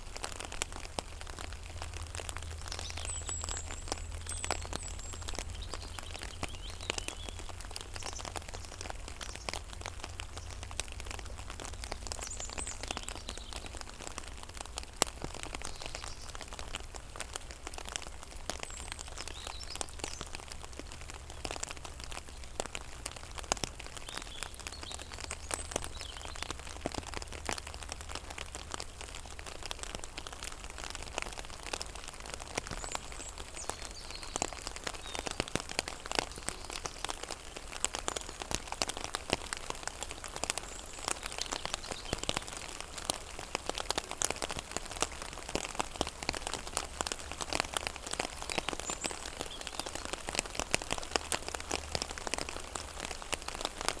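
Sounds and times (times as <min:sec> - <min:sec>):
raindrops plinking on water: 0:00.0 - 0:54.0.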